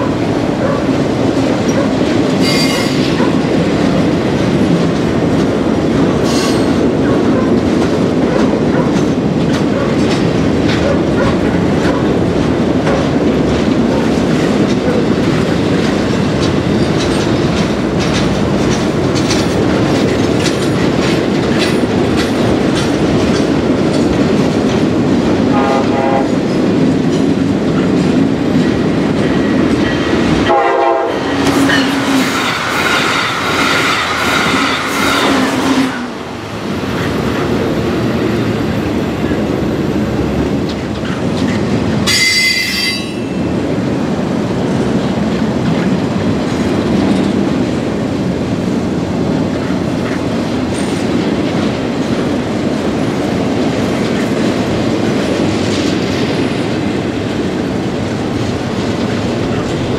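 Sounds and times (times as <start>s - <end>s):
wheels clicking over rail joints: 0.0s - 30.6s, 31.4s - 59.9s
freight train rumbling past: 0.0s - 59.9s.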